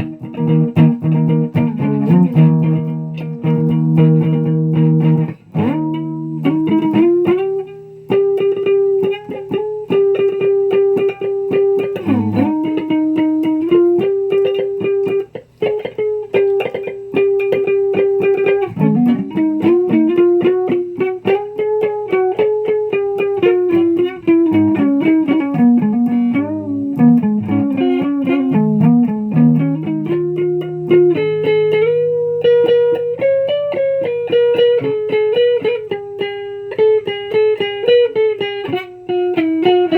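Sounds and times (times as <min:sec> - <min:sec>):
picked guitar melody: 0:00.0 - 0:39.9.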